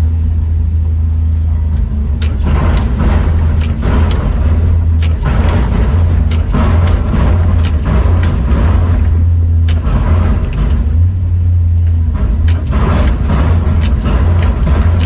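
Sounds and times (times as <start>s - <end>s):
heavy machinery engine rumbling: 0.0s - 15.0s
sharp knocks: 1.8s - 11.1s, 11.8s - 15.0s.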